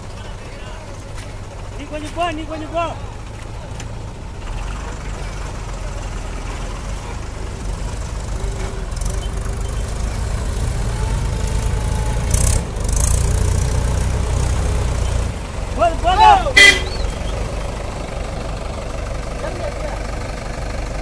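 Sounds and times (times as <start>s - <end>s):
diesel tractor engines under load: 0.0s - 21.0s.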